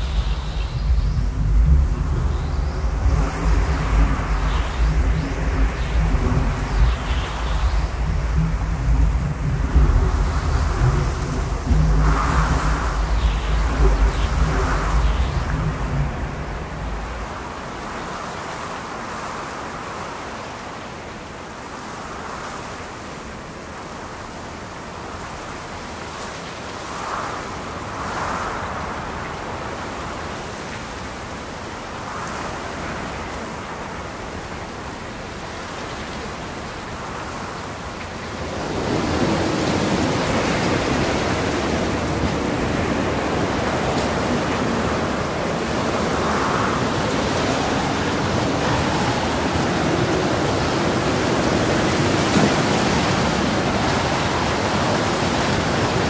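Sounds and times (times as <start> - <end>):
rain rushing: 0.0 - 21.0, 26.9 - 56.0
wind: 0.0 - 56.0.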